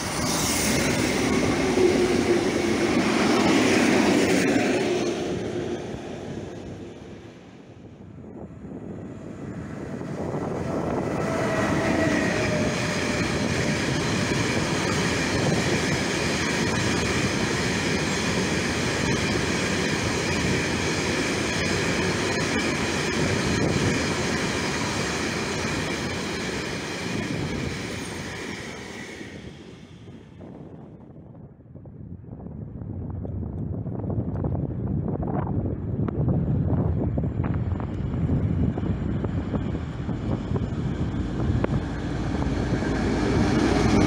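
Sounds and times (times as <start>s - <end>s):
train wheels rumbling on rails: 0.0s - 30.9s, 33.5s - 44.0s.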